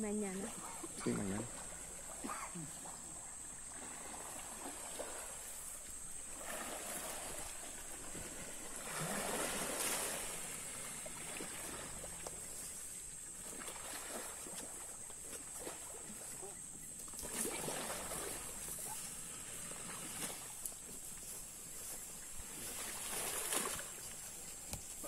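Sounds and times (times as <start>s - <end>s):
muddy water sloshing: 0.0s - 25.0s.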